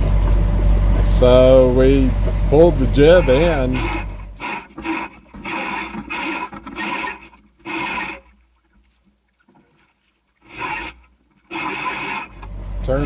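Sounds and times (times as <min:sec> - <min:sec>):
sail and furling gear rustling: 0:00.0 - 0:13.0.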